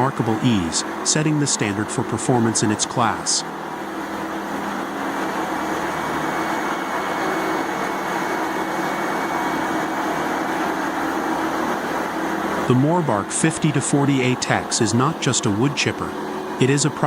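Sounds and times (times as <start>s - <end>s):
wood chipper running: 0.0s - 17.0s.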